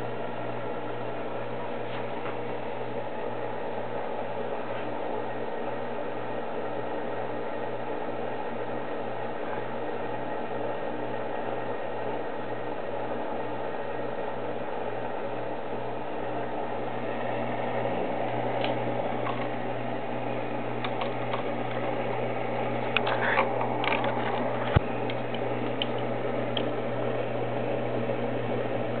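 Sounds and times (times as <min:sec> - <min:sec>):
aquarium pumps humming: 0:00.0 - 0:29.0.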